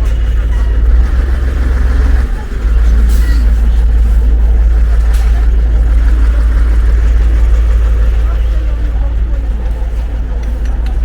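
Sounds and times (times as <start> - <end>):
low street noise rumble: 0.0 - 11.0.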